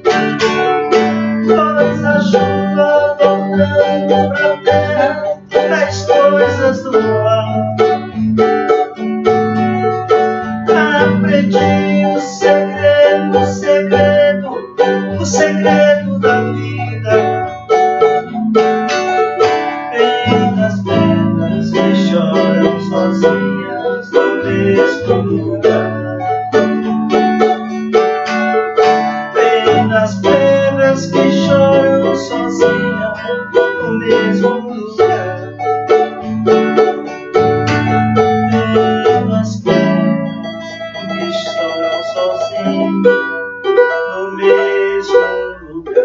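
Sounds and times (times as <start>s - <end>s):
banjo and acoustic guitar playing: 0.0s - 46.0s.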